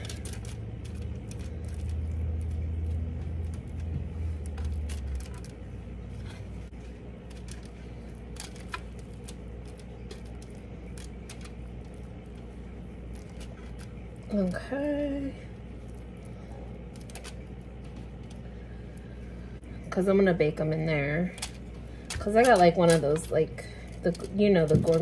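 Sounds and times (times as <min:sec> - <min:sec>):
aluminium foil crinkling: 0:00.0 - 0:19.2, 0:21.1 - 0:25.0
low steady hum: 0:00.0 - 0:25.0.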